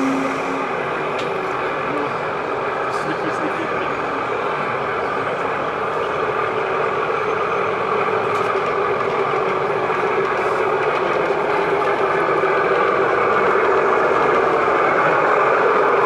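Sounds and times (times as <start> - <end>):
model locomotive diesel engine: 0.0 - 16.0.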